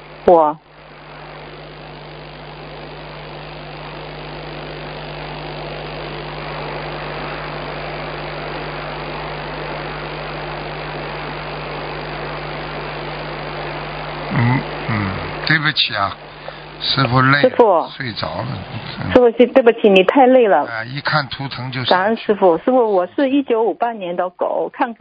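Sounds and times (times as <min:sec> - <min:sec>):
telephone line hiss: 0:00.0 - 0:24.8
low electrical hum: 0:00.0 - 0:25.0.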